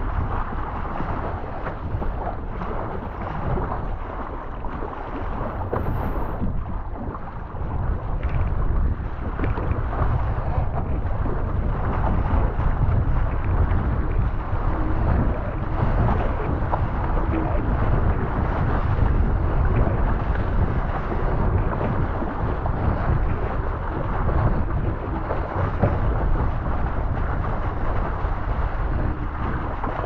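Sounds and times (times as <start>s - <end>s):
rushing water: 0.0s - 30.0s
wind buffeting microphone: 0.0s - 30.0s.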